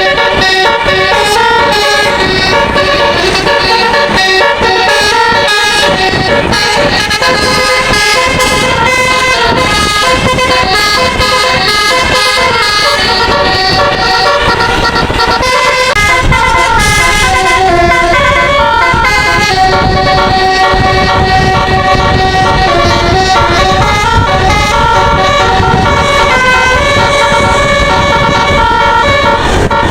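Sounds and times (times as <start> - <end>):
musical air horn playing tune: 0.0 - 29.9
rumbling noise: 0.0 - 29.9.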